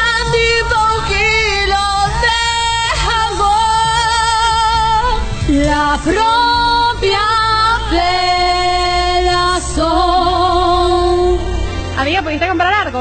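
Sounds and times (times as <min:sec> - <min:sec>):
woman singing with vibrato: 0:00.0 - 0:12.7
backing music: 0:00.0 - 0:13.0.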